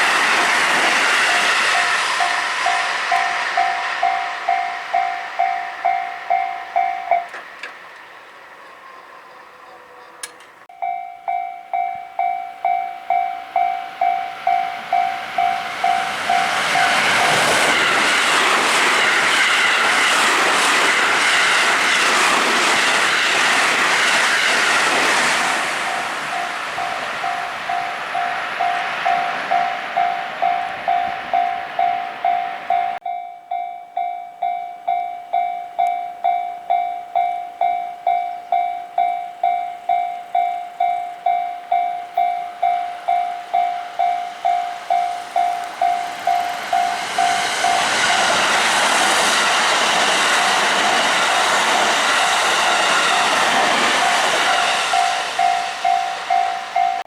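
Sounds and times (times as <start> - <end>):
electric trains passing: 0.0 - 57.0
level-crossing warning bell: 0.0 - 57.0.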